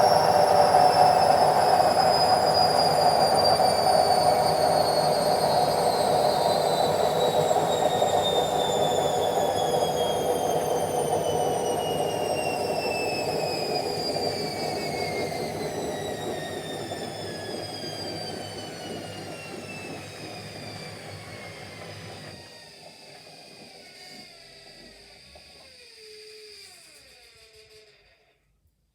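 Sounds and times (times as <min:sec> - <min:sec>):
washing machine spin winding down: 0:00.0 - 0:28.3.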